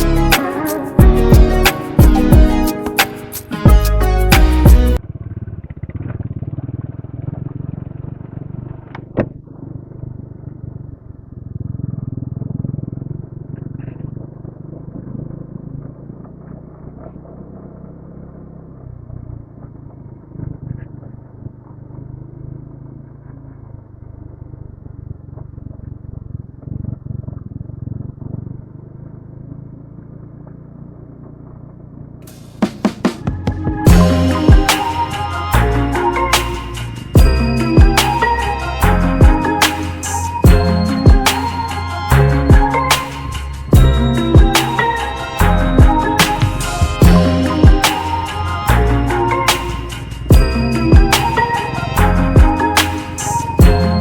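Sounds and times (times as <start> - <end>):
motorcycle engine rumble: 0.0 - 54.0
road and wind noise: 5.0 - 54.0.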